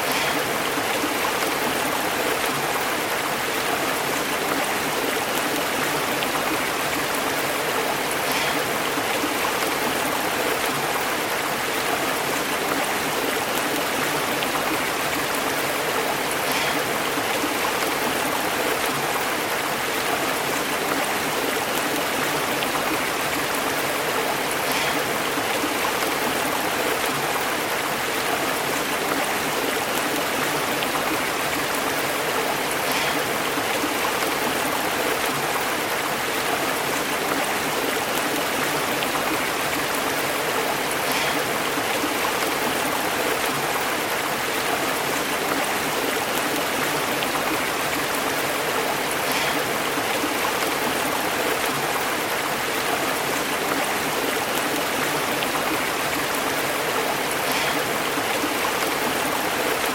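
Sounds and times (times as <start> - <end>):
stream burbling over rocks: 0.0 - 59.9.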